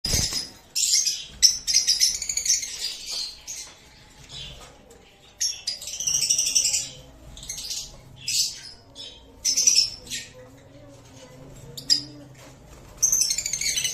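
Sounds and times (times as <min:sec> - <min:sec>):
birds chirping and squeaking: 0:00.0 - 0:13.9.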